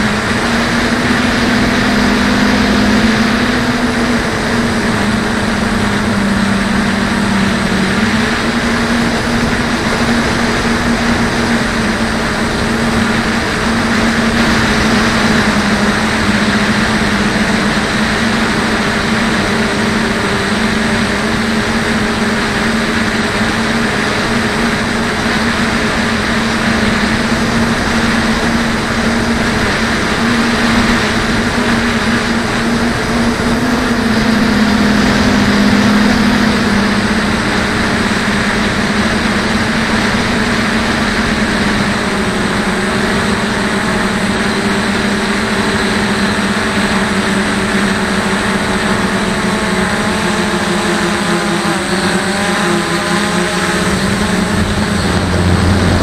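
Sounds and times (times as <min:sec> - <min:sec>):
drone motors and propellers humming: 0:00.0 - 0:56.0.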